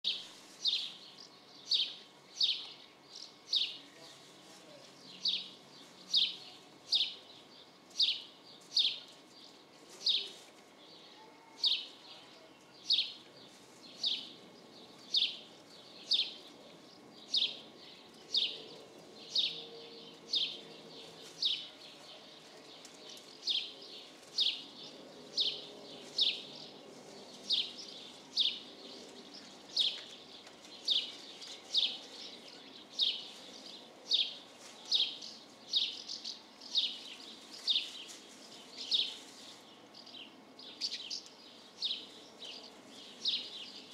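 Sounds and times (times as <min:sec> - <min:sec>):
bird chirping: 0:00.0 - 0:04.1, 0:05.0 - 0:43.9.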